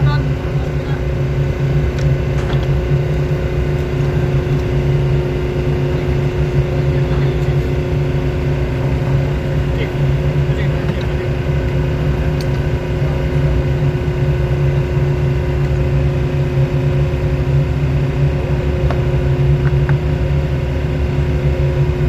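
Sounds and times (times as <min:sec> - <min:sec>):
marine engine droning: 0:00.0 - 0:22.0.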